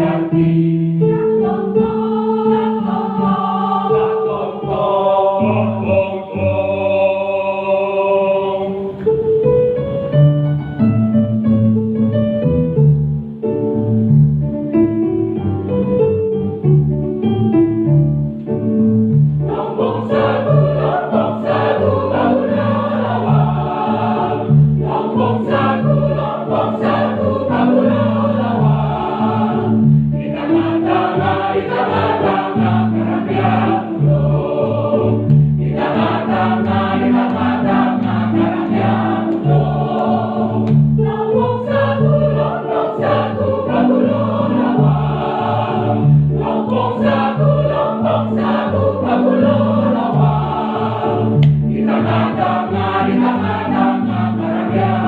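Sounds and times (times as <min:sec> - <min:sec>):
choir singing: 0:00.0 - 0:09.0, 0:19.4 - 0:55.0
instrumental accompaniment with bass: 0:08.8 - 0:55.0.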